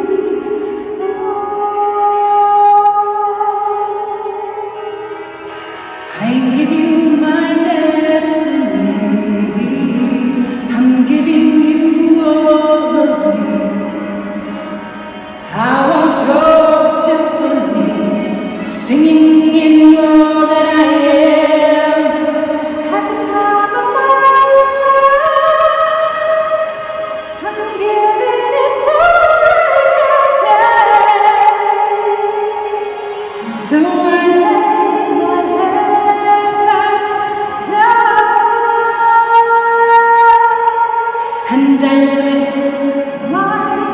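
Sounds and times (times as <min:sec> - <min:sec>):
woman singing slow melody: 0:00.0 - 0:05.3, 0:06.1 - 0:14.8, 0:15.4 - 0:43.9
soft accompaniment: 0:00.0 - 0:43.9.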